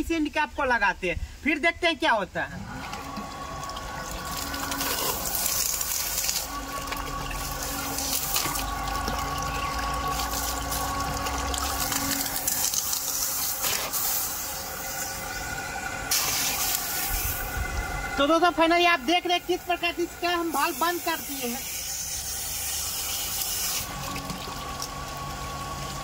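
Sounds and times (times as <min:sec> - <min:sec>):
pump motor humming: 0:02.4 - 0:26.0
water gushing into a basin: 0:02.4 - 0:26.0.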